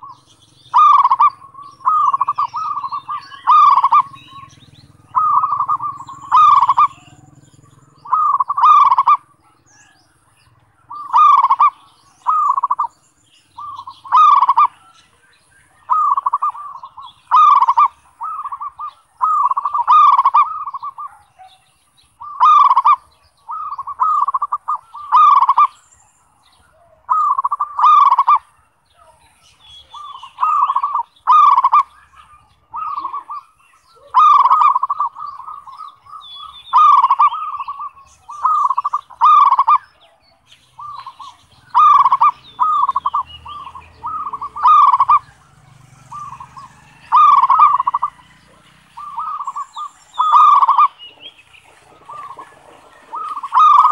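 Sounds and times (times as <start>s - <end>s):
dove cooing: 0.0s - 25.8s, 26.5s - 53.9s.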